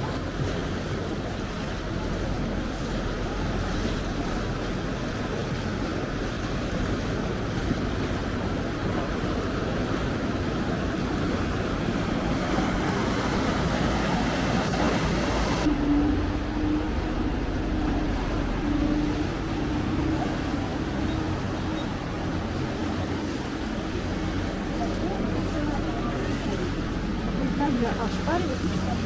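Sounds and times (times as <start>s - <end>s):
boat engines running: 0.0s - 29.0s
water washing: 0.0s - 29.0s.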